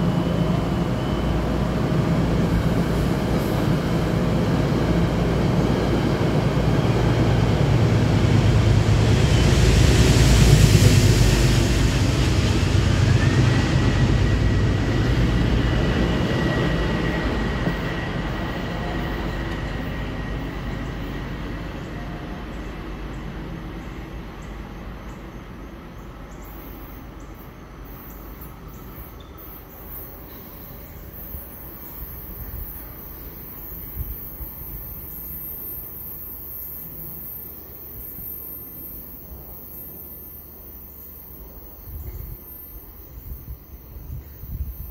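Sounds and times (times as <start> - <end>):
train rumble and hiss: 0.0 - 44.9.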